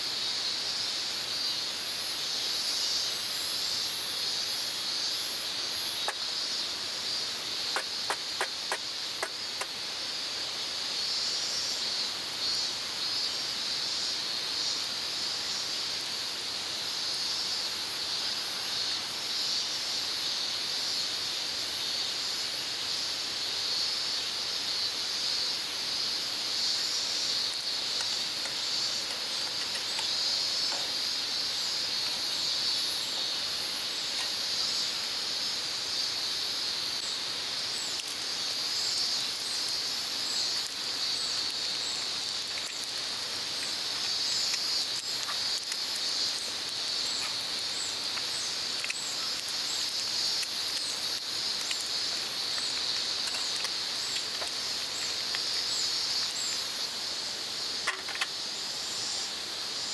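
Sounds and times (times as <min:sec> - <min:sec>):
insect chorus buzzing: 0:00.0 - 0:59.9.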